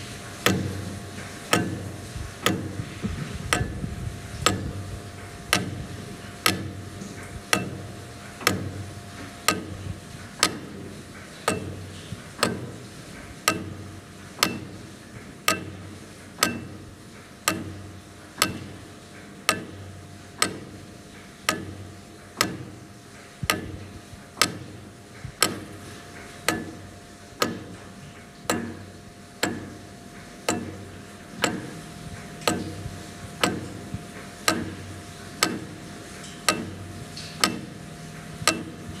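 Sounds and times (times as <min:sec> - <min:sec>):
clockwork mechanism ticking: 0:00.0 - 0:39.0.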